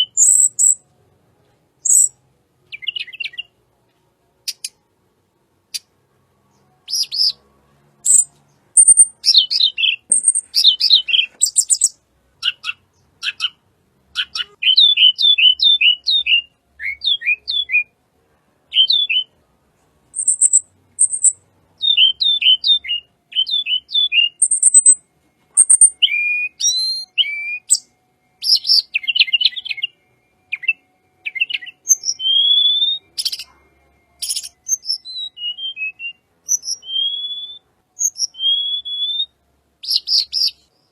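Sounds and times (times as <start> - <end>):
songbird singing: 0.0 - 0.9, 1.8 - 4.9, 5.6 - 18.0, 18.6 - 40.9.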